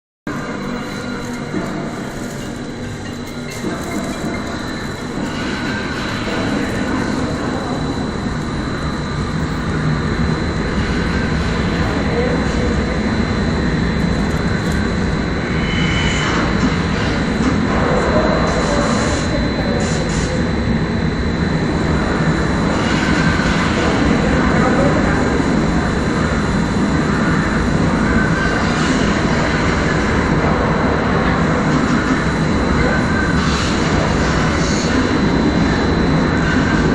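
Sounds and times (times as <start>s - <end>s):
faint high whine: 0.3s - 36.9s
strong wind roaring: 0.3s - 36.9s.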